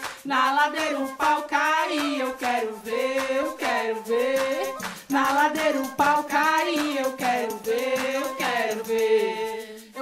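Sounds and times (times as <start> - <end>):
woman singing: 0.2 - 10.0.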